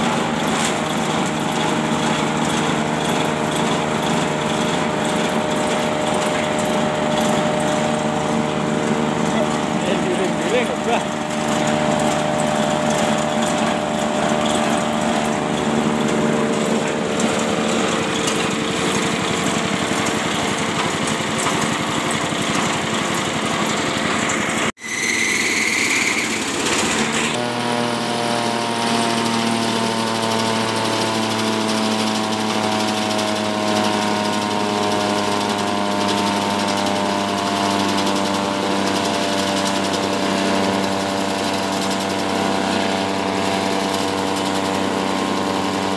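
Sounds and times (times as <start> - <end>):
small petrol engine running: 0.0 - 45.9.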